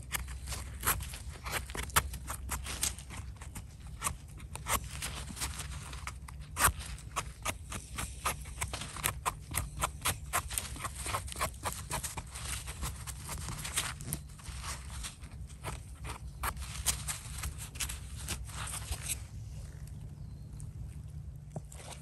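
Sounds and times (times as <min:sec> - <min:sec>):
knife scraping mushroom stem: 0:00.0 - 0:19.4.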